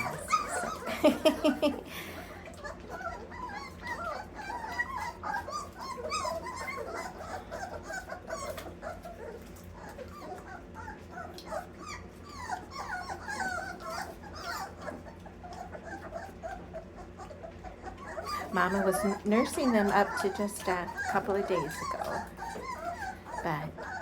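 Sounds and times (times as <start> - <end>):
puppies whimpering and squeaking: 0.0 - 24.0.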